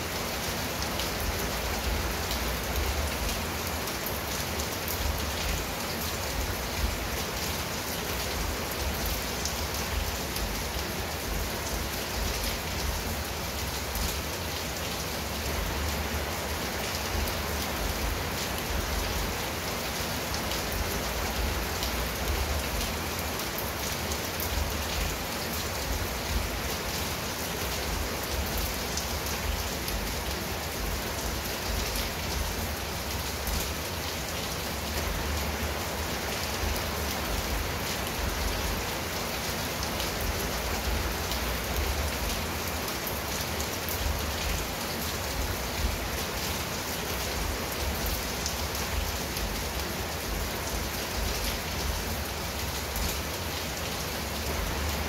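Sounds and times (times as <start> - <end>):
rain on a tiled roof: 0.0 - 55.0
ticks of raindrops: 0.0 - 55.0.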